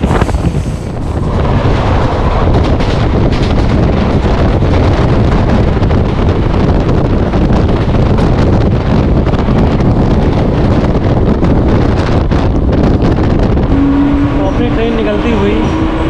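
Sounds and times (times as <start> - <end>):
electric train running at speed: 0.0 - 16.0
wind rushing over microphone: 0.0 - 16.0.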